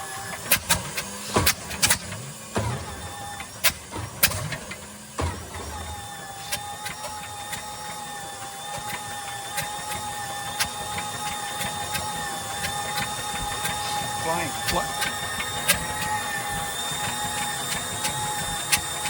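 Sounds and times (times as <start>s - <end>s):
aircraft engine starter whine: 0.0s - 19.0s.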